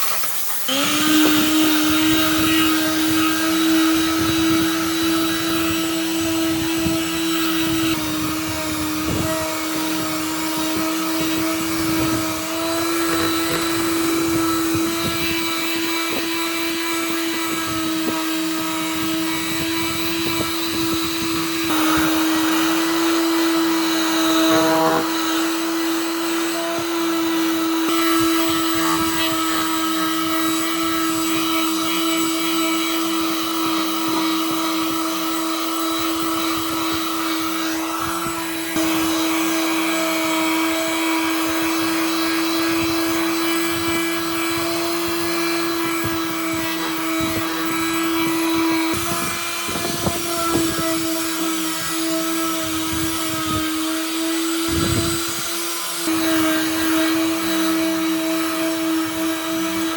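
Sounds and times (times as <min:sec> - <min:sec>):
power tool motor running: 0:00.0 - 0:59.9.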